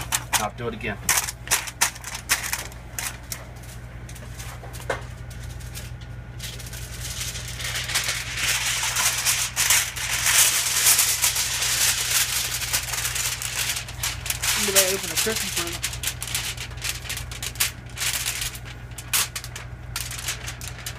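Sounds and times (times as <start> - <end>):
aluminum foil crinkling: 0.0 - 20.9
low hum: 1.0 - 20.9.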